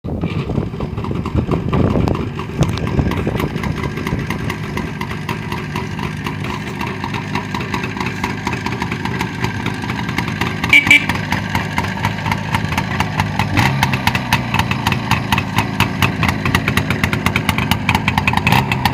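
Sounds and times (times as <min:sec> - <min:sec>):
motorcycle engine idling: 0:00.1 - 0:18.9.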